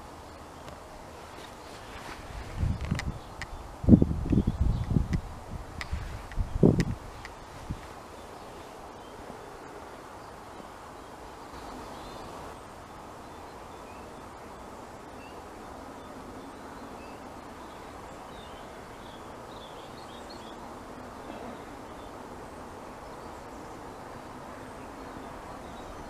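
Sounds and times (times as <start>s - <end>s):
small birds chirping: 0.0s - 26.0s
steady rushing noise: 0.0s - 26.0s.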